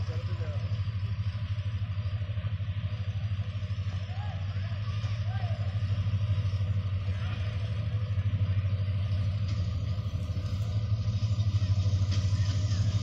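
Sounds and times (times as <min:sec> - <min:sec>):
locomotive engine throbbing: 0:00.0 - 0:13.0.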